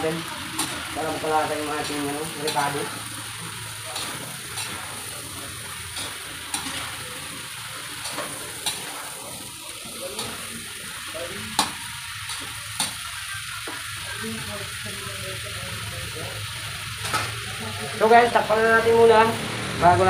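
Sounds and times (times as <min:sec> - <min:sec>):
vegetables sizzling in a wok: 0:00.0 - 0:20.0.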